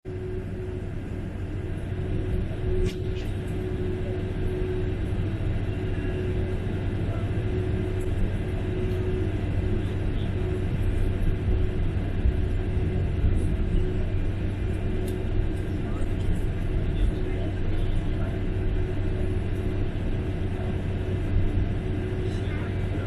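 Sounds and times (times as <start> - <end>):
faint hum: 0.1 - 23.0
jet engines running: 0.1 - 23.0.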